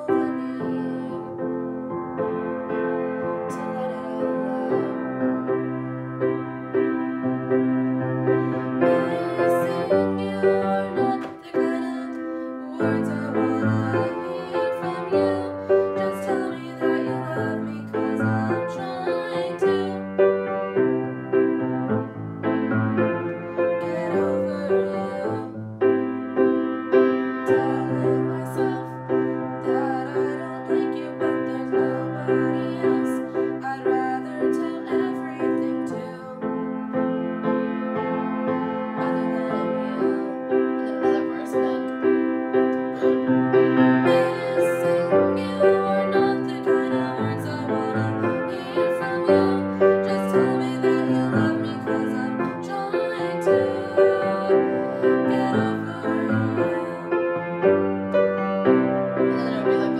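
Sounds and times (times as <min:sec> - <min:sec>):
solo grand piano: 0:00.0 - 0:59.9.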